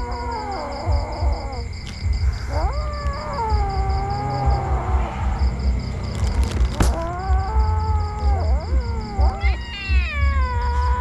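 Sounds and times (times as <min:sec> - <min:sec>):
cat meowing: 0:00.0 - 0:05.4, 0:06.2 - 0:11.0.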